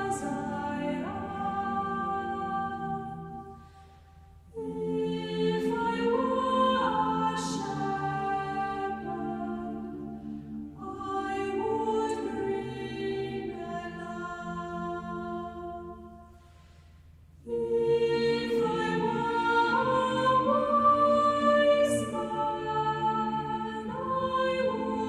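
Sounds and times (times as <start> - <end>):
choir singing long notes: 0.0 - 16.6, 17.4 - 25.0.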